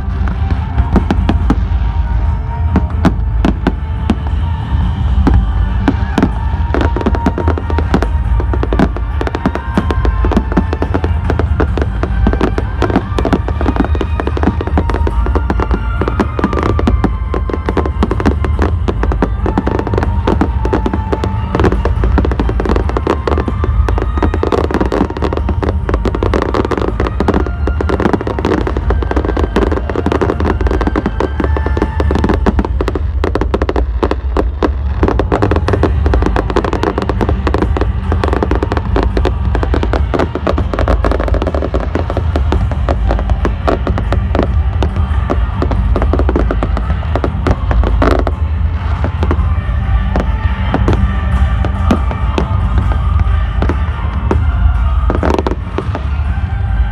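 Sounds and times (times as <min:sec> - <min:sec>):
fireworks bangs and crackling: 0:00.0 - 0:56.9
music with held melodic notes: 0:00.0 - 0:56.9.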